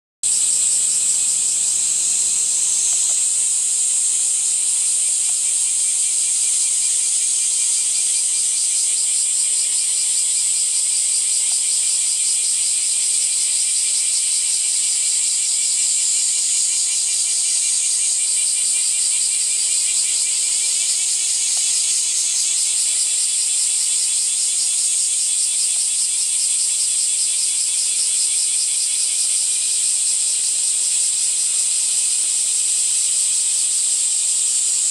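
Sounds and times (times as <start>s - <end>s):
high-pitched insect chorus: 0.2s - 34.9s.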